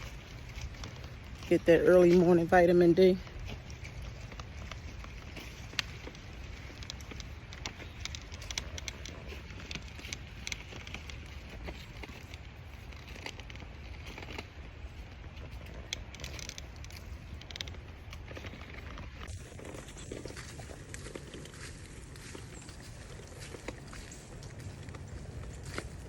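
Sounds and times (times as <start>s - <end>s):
footsteps crunching dry leaves: 0.0s - 26.0s.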